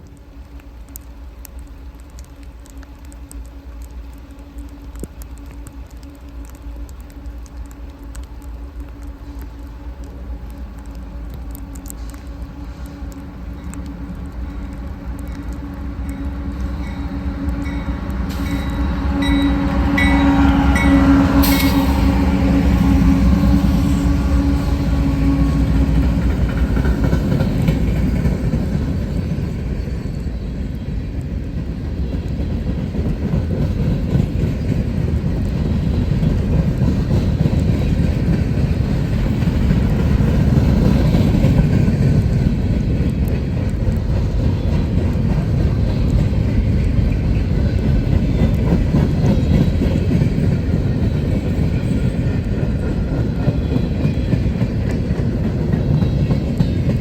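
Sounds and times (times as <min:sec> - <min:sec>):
faint clicking of wheels: 0:00.0 - 0:20.2, 0:25.4 - 0:57.0
train wheels rumbling on rail: 0:00.0 - 0:57.0.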